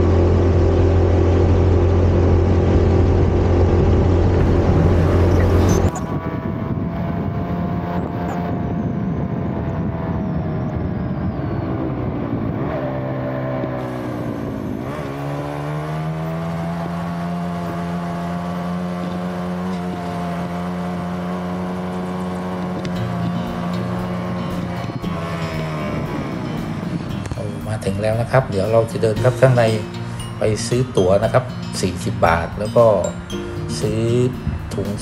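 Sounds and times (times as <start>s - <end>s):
small motorcycle engine running: 0.0s - 28.6s.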